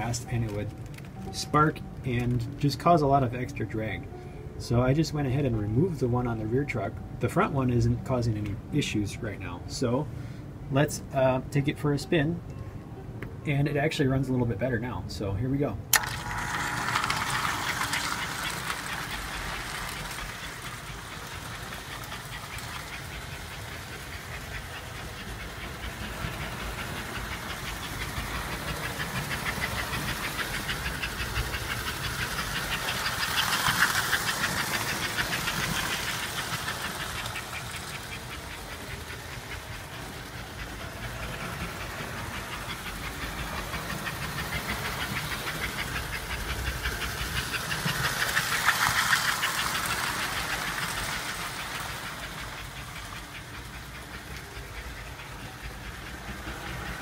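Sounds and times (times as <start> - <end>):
wheels clattering on track: 0.0 - 9.6, 15.9 - 57.0
toy train motor hum: 0.0 - 9.9, 15.9 - 57.0.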